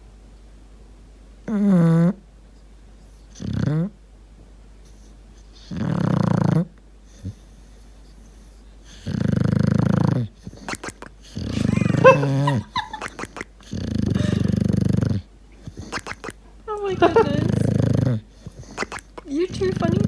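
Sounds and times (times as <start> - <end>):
dog snoring: 1.4 - 2.2, 3.3 - 4.0, 4.9 - 20.0.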